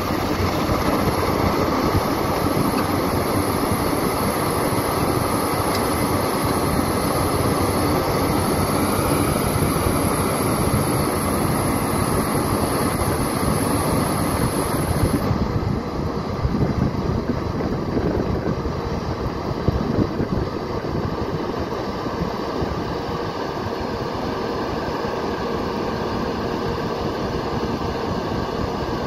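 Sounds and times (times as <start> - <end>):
excavator diesel engine under load: 0.0 - 29.0.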